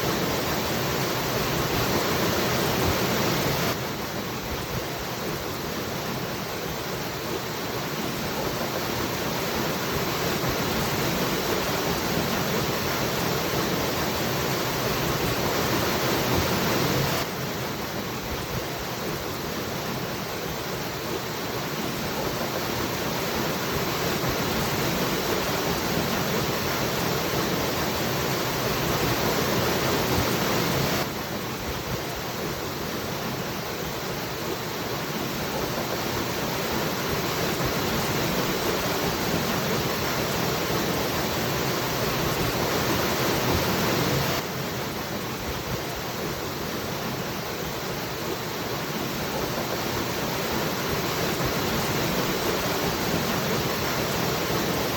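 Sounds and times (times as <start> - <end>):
waterfall rushing: 5.5 - 54.9.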